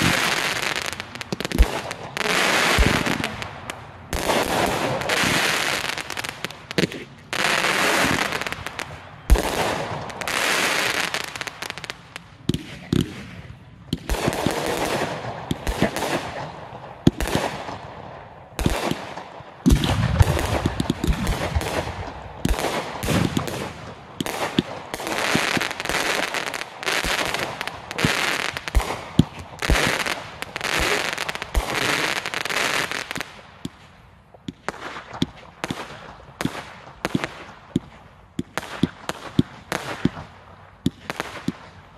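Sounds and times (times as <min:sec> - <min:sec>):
fireworks bursting with bangs: 0:00.0 - 0:41.9
fireworks crackling and hissing: 0:00.0 - 0:41.9.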